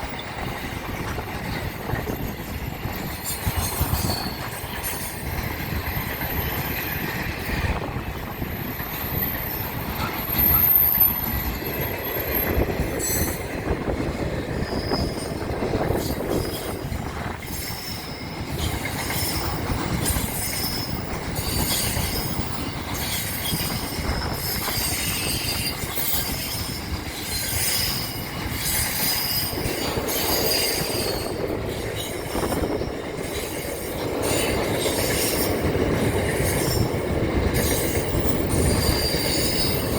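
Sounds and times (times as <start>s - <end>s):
train rumbling on rails: 0.0s - 39.9s
train wheels squealing: 0.0s - 39.9s.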